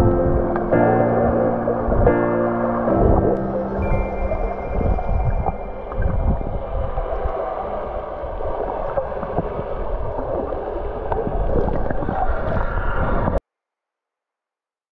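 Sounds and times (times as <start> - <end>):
deep underwater rumble: 0.0 - 13.4
underwater rushing and gurgling water: 0.0 - 13.4.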